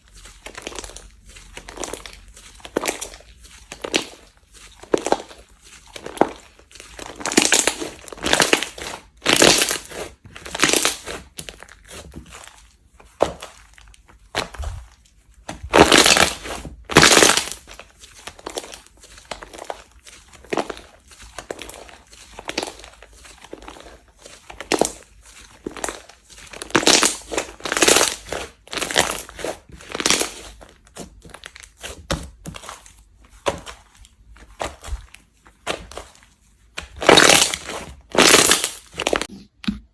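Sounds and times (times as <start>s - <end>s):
hands squishing slime: 0.0s - 39.9s.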